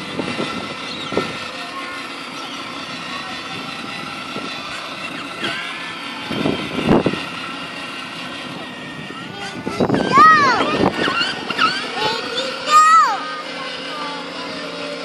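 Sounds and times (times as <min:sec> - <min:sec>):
electric toy car motors whining: 0:00.0 - 0:15.0.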